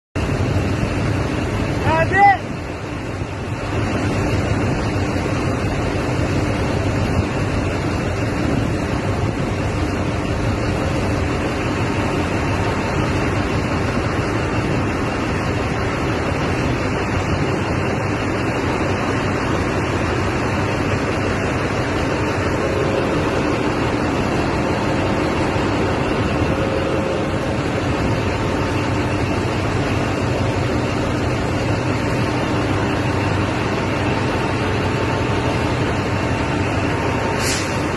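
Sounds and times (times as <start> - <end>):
heavy rain: 0.2 - 37.9
rushing floodwater: 0.2 - 37.9
vehicle engine running: 0.2 - 37.9.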